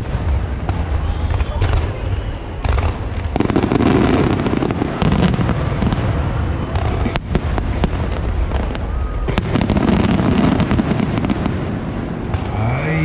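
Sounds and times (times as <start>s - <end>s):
fireworks crackling: 0.0s - 13.0s
low booming fireworks: 0.0s - 13.0s
sharp fireworks reports: 0.0s - 13.0s.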